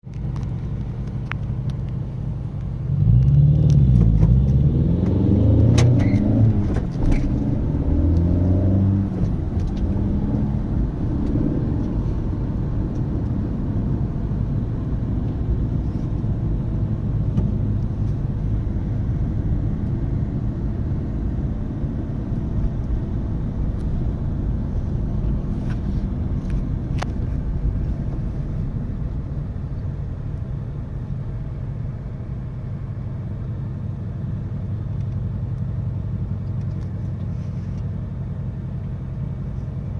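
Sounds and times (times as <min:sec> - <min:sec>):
steady engine rumble: 0:00.0 - 0:39.9
car engines revving: 0:00.2 - 0:37.9.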